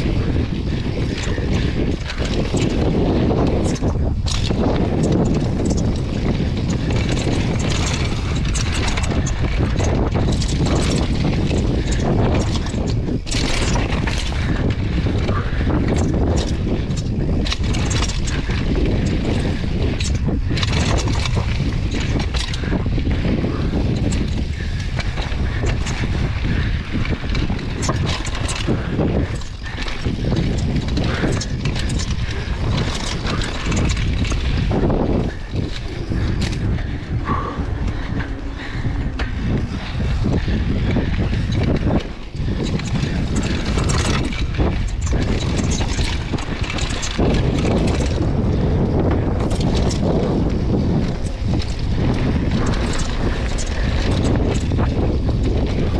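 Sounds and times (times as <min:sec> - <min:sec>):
bike knocks and rattles: 0:00.0 - 0:55.9
tyres rumbling over dirt and rocks: 0:00.0 - 0:55.9
wind buffeting microphone: 0:00.0 - 0:55.9.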